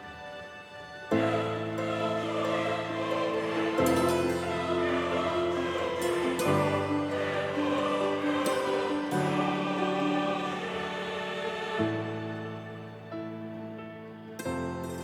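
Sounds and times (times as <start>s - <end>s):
choir-like sustained chords: 0.0s - 15.0s.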